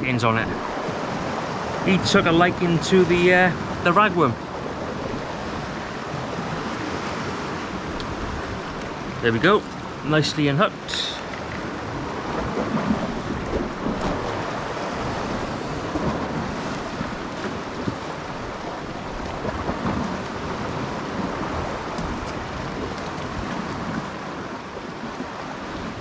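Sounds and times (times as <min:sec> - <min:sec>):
sea washing against rocks: 0:00.0 - 0:26.0
wind rumbling on microphone: 0:00.0 - 0:26.0.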